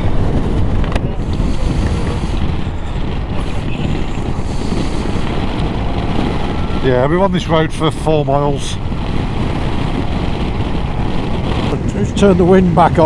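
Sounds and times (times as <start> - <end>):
motorcycle engines: 0.0 - 13.0
tyres on the road: 0.0 - 13.0
wind rushing over microphone: 0.0 - 13.0.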